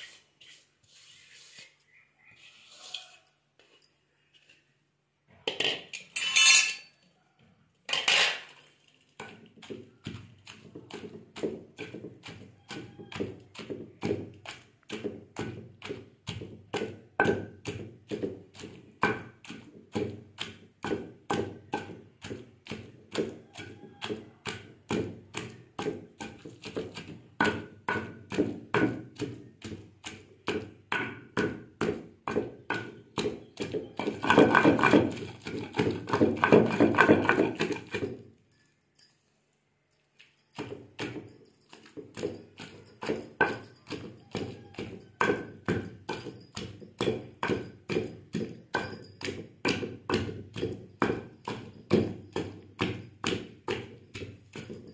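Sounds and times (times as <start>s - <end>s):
pestle pounding in stone mortar: 9.2s - 38.7s, 40.4s - 54.9s.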